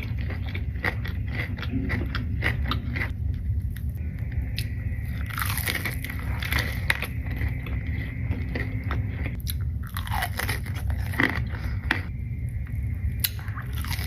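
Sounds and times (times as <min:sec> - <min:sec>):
crunchy food chewing: 0:00.0 - 0:14.0.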